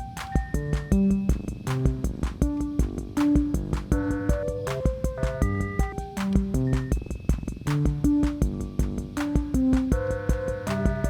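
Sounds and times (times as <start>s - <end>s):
buzzy pulsing synth tone: 0.0s - 11.0s
drum machine kick and hi-hat beat: 0.0s - 11.0s
synthesizer notes: 0.0s - 11.0s.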